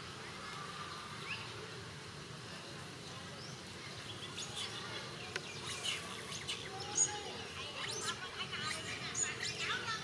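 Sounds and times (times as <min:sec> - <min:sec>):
steady hiss: 0:00.0 - 0:09.7.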